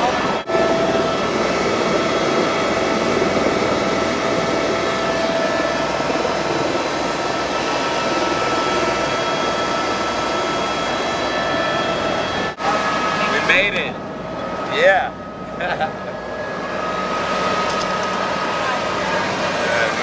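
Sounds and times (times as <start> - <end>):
helicopter rotor rush: 0.0 - 20.0
high turbine whine: 0.0 - 20.0.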